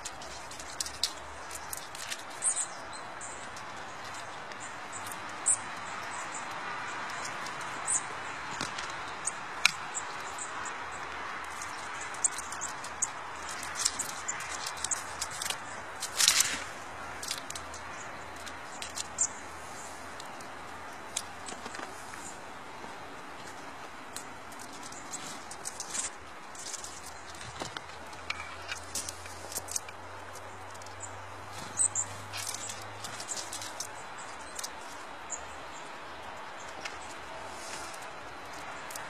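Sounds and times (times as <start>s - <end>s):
squirrel husking seeds clicks: 0.0s - 19.5s, 20.1s - 22.4s, 23.2s - 39.0s.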